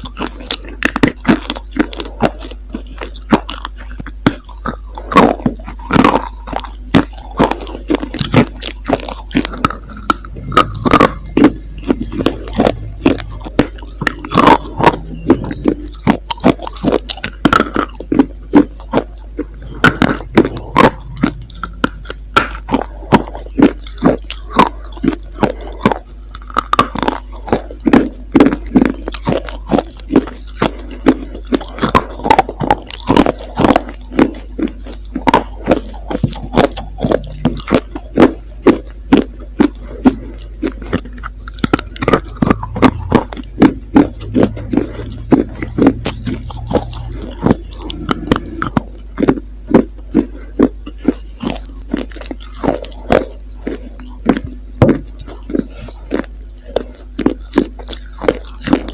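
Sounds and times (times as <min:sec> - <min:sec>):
crunchy chewing: 0:00.0 - 0:58.9.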